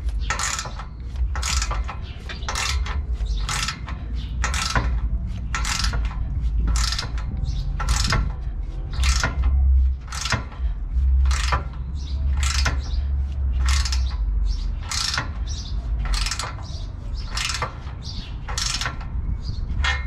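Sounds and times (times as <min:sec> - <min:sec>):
low rumble: 0:00.0 - 0:20.0
ratchet wrench clicking: 0:00.0 - 0:20.0.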